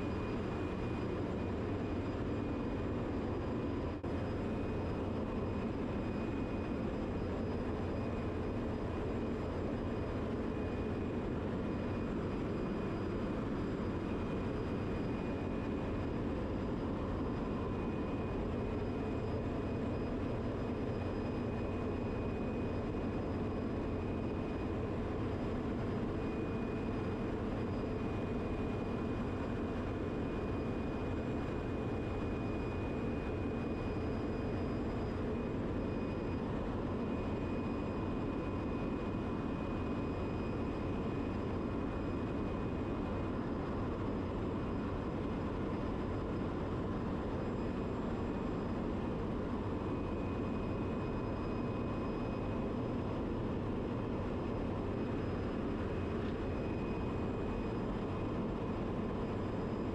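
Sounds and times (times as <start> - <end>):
thin high whine: 4.2 - 59.9.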